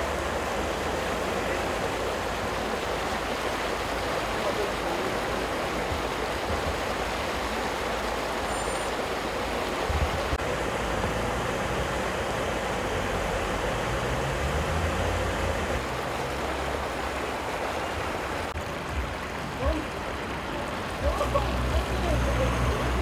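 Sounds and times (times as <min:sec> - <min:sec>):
car driving through water: 0:00.0 - 0:23.0
floodwater rushing: 0:00.0 - 0:23.0.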